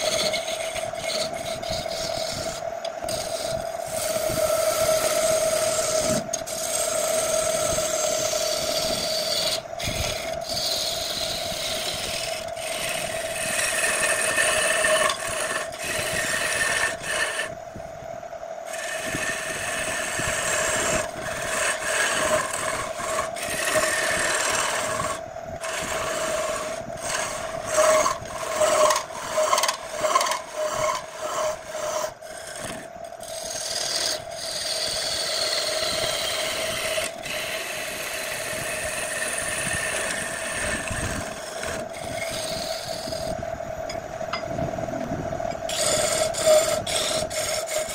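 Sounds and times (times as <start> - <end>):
turning tool scraping wood: 0.0 - 17.6, 18.7 - 43.4, 45.5 - 47.9
wood lathe humming: 0.0 - 17.8, 18.6 - 47.9.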